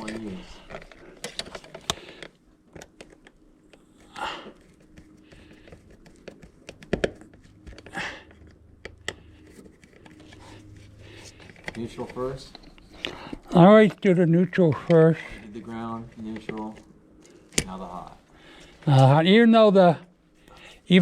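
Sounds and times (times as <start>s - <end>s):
clicks and scrapes of wires: 0.0s - 19.2s.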